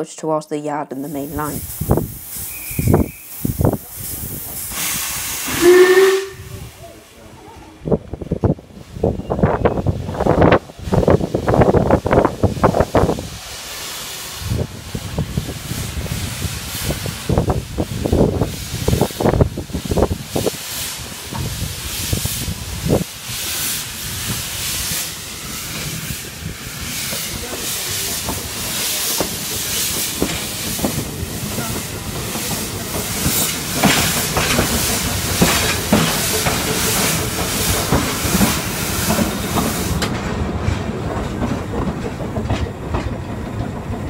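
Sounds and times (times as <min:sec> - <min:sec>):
steam locomotive chuffing: 0:01.4 - 0:07.6, 0:09.0 - 0:44.0
train wheels clattering on rails: 0:08.4 - 0:44.0.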